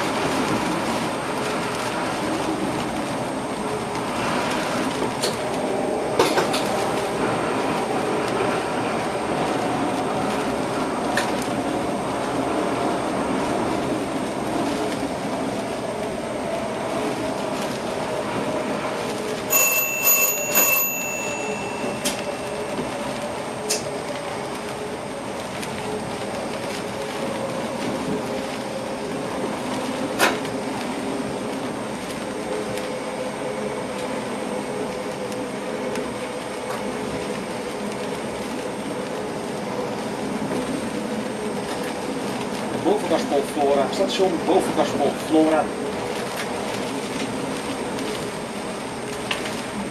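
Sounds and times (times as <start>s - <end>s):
train running noise: 0.0s - 49.9s.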